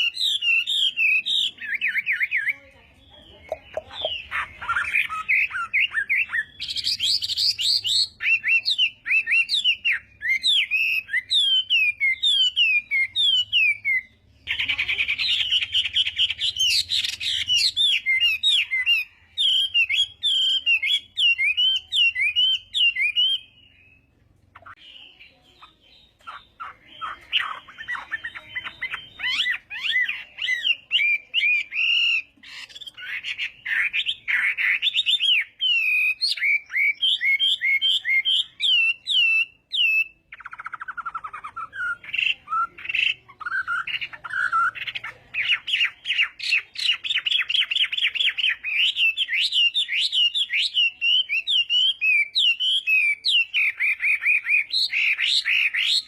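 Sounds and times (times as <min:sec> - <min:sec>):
bird singing whistled phrases: 0:00.0 - 0:02.6, 0:03.3 - 0:56.0.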